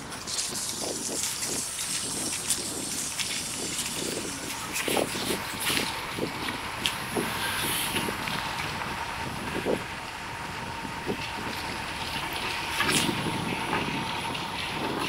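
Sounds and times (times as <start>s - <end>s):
city street traffic rush: 0.0s - 15.0s.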